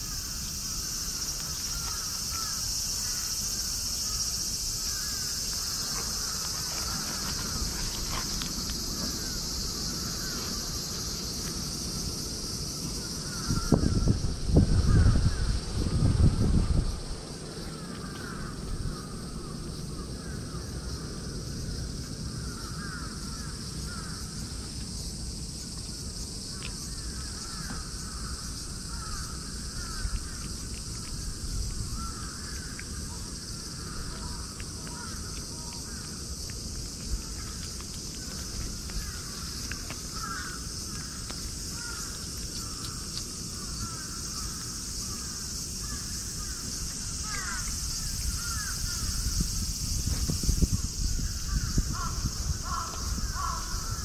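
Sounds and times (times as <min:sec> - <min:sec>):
high-pitched insect drone: 0:00.0 - 0:20.7, 0:22.4 - 0:24.3, 0:24.9 - 0:30.6, 0:31.2 - 0:54.0.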